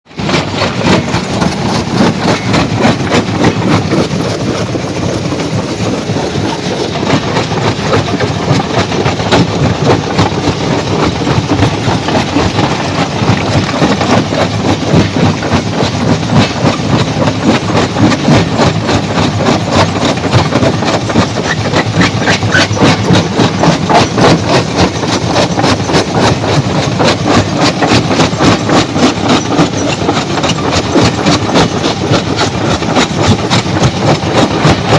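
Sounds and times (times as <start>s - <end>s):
heavy machine noise: 0.1s - 34.9s
rock rattling and clattering: 0.2s - 34.9s.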